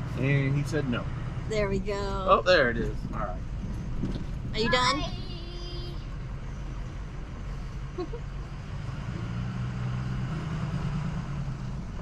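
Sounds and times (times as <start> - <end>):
road noise: 0.0 - 12.0
truck engine hum: 0.0 - 12.0.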